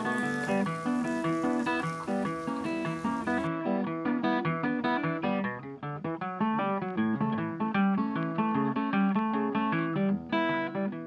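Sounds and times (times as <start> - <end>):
acoustic guitar plucked notes: 0.0 - 11.0.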